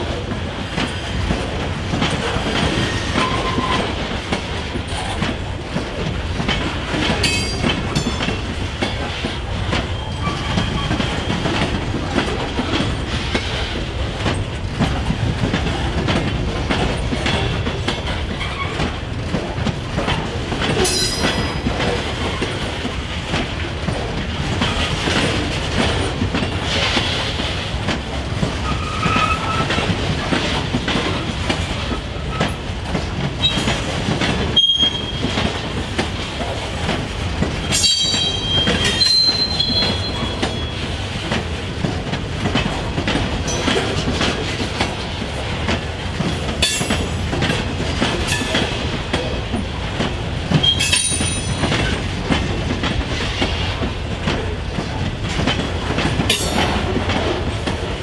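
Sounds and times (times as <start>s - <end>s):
clicking over rail joints: 0.0s - 58.0s
train wheels rumbling on rail: 0.0s - 58.0s.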